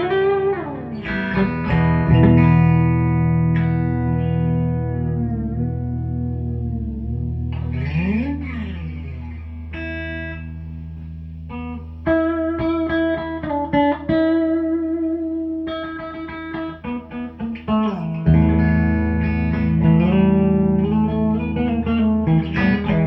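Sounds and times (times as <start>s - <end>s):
plucked guitar notes: 0.0s - 23.0s.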